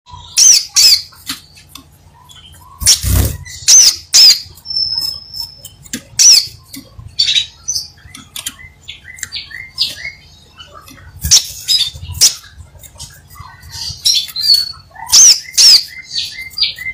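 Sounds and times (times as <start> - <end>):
bird chirping: 0.1 - 16.9.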